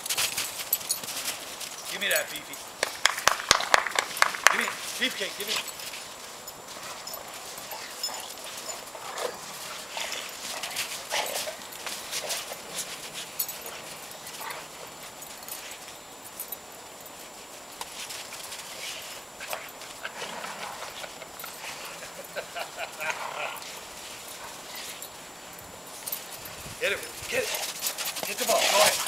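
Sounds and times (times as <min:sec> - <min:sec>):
paws crunching in snow: 0:00.0 - 0:29.0.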